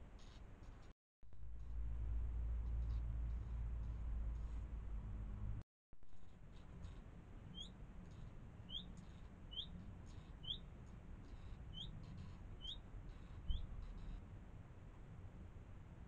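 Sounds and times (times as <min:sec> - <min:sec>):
faint low rumble: 0:00.2 - 0:16.0.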